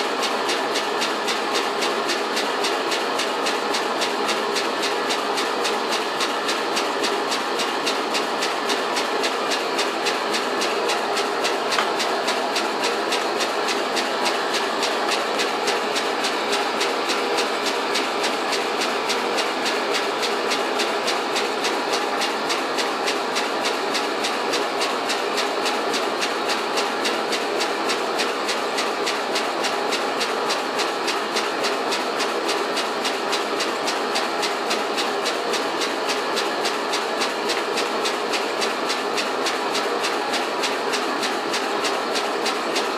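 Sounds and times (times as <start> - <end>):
steam engine running: 0.0 - 42.9.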